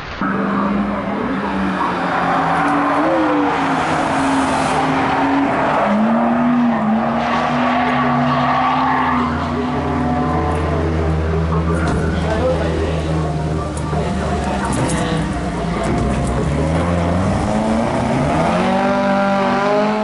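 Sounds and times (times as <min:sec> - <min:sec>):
race car engines revving: 0:00.1 - 0:20.0.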